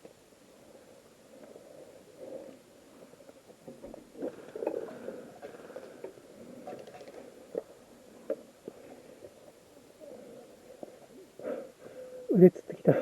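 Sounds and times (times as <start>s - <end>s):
soft rustling: 0.0s - 12.1s.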